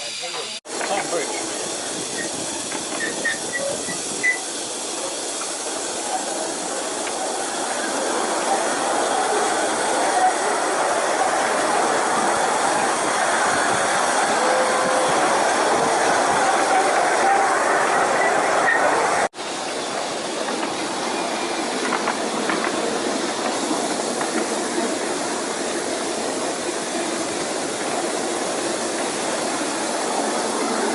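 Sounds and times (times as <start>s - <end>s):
miniature train hissing: 0.0s - 30.9s.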